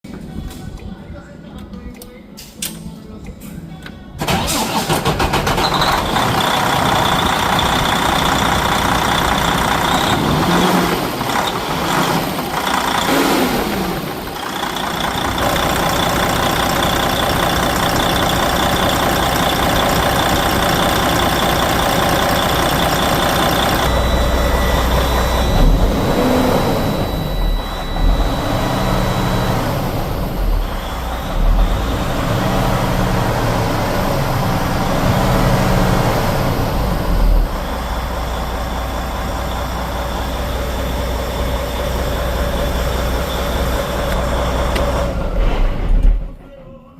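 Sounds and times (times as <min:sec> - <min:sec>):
diesel engine running: 0:04.2 - 0:46.4.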